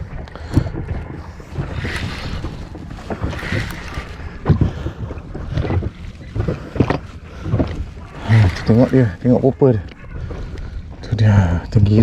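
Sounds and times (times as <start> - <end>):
water washing against boat: 0.0 - 12.0
wind on microphone: 0.0 - 12.0.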